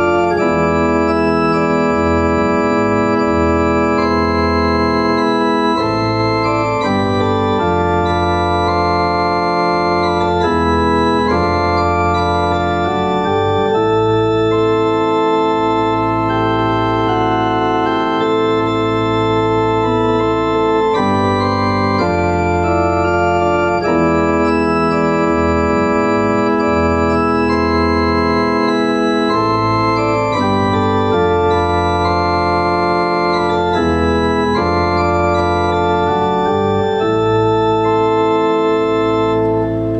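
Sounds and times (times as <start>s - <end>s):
pipe organ chords: 0.0s - 39.9s.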